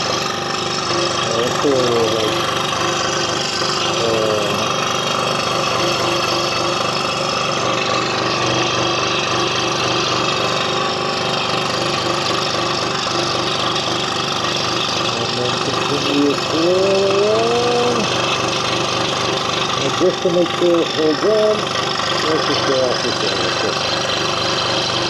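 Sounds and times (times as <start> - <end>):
scroll saw cutting wood: 0.0 - 25.0.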